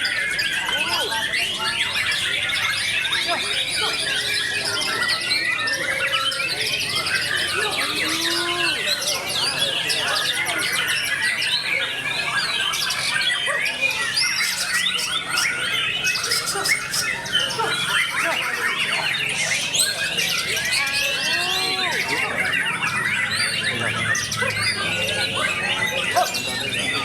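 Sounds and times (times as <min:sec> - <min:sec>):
birds singing: 0:00.0 - 0:27.0.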